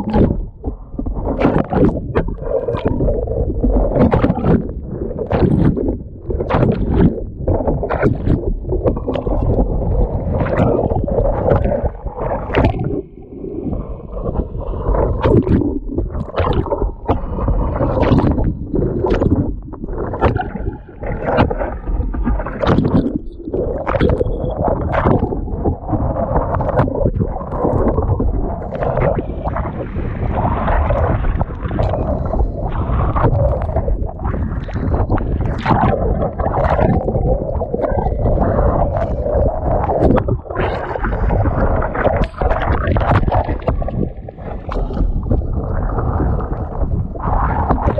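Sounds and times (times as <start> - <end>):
water splashing and sloshing: 0.0 - 47.9
wind buffeting microphone: 0.0 - 47.9.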